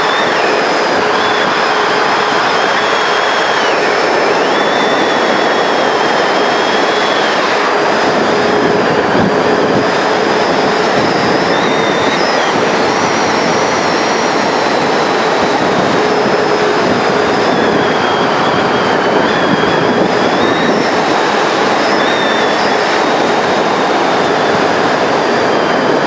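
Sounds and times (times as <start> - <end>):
faint wavering whistling: 0.0 - 26.0
wind rushing over microphone: 0.0 - 26.0.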